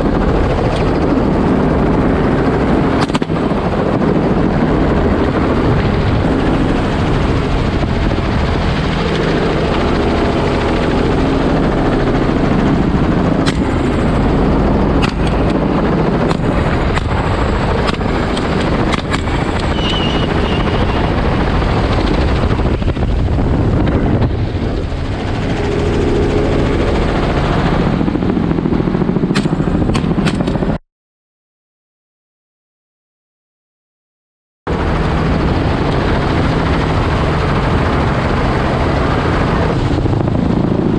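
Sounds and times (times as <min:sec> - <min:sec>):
helicopter rotor and engine: 0:00.0 - 0:30.8, 0:34.7 - 0:40.9.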